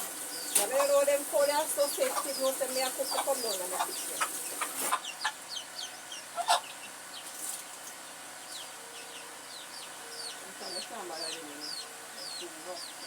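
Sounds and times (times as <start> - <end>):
chickens clucking and peeping: 0.0 - 13.0.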